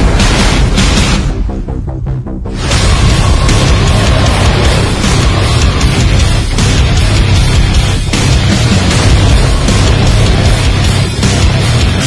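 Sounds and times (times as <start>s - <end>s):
loud aggressive music: 0.0s - 12.0s.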